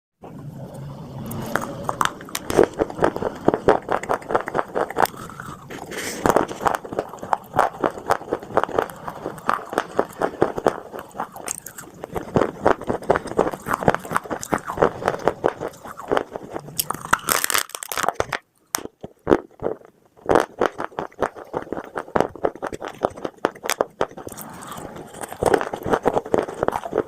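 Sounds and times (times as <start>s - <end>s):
crunching dry clay: 1.3s - 27.0s.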